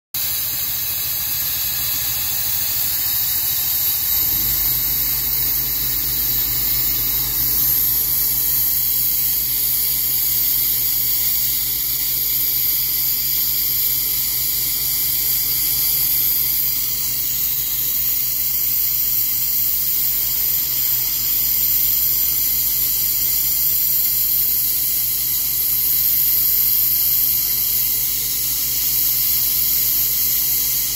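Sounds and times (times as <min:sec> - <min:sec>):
low mechanical hum: 0:00.2 - 0:30.9
sandblasting hiss: 0:00.2 - 0:30.9.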